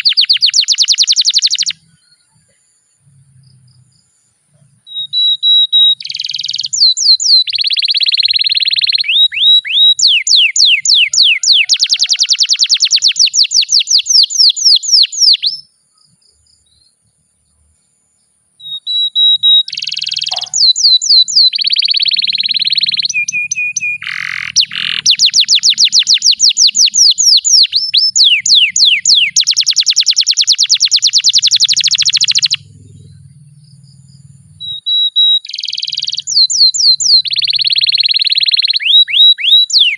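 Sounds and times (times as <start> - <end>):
canary singing trills: 0.0 - 17.8, 18.6 - 39.9.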